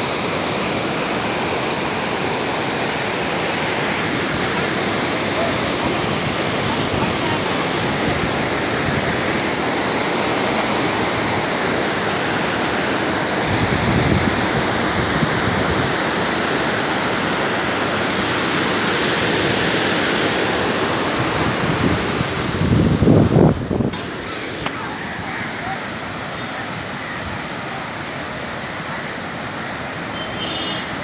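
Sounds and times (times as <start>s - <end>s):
floodwater rushing over spillway: 0.0s - 31.0s.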